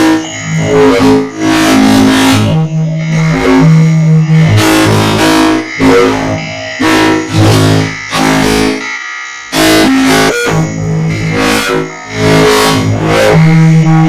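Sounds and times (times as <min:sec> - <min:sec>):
guitar and synthesizer music: 0:00.0 - 0:08.8, 0:09.5 - 0:14.0.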